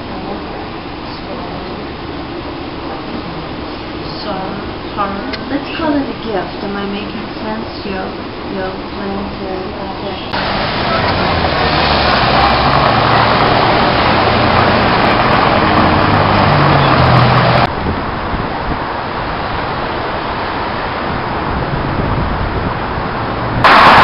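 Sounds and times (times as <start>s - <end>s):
city background noise: 0.0s - 24.0s
street traffic: 0.0s - 24.0s
vehicle engine running: 0.0s - 24.0s.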